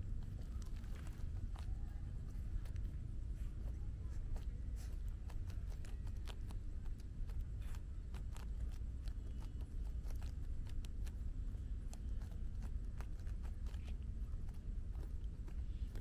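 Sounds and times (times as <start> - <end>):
puppy claws scratching soil: 0.0 - 16.0
steady low rumble: 0.0 - 16.0.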